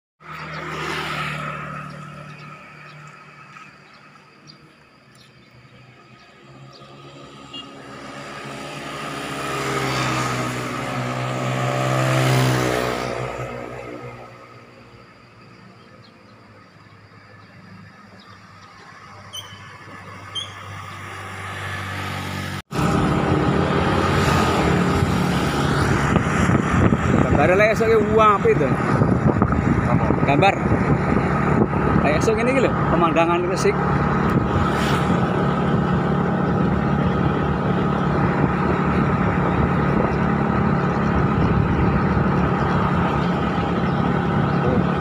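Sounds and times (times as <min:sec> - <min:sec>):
vehicle passing close: 0:00.2 - 0:04.5, 0:05.5 - 0:45.0
motorbike passing: 0:00.2 - 0:45.0
traffic on a wet road: 0:00.2 - 0:45.0.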